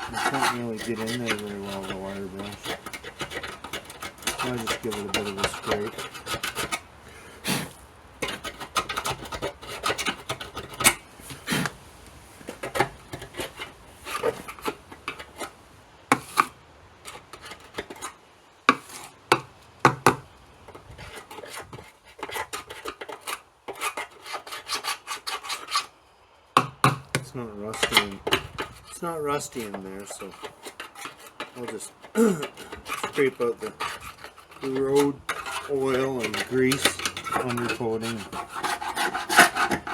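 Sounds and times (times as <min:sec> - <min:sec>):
hand scraper scraping steel: 0:00.0 - 0:11.8, 0:12.4 - 0:26.0, 0:26.6 - 0:39.9.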